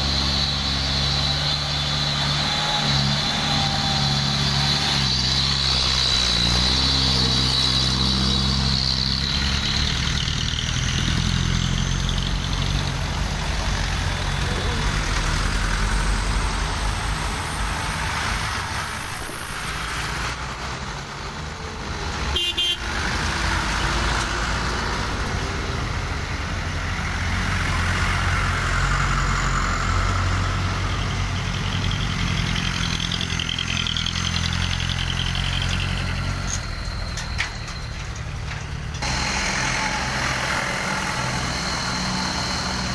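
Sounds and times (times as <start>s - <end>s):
heavy truck engines running: 0.0s - 42.9s.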